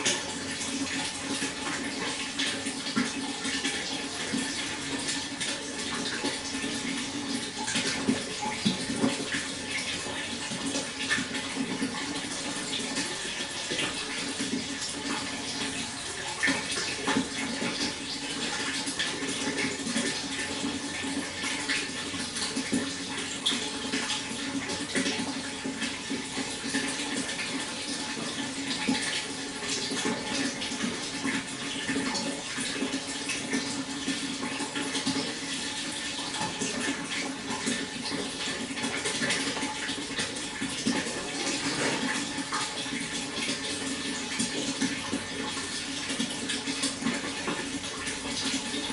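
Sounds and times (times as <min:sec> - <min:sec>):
water flowing with splashes: 0:00.0 - 0:48.9.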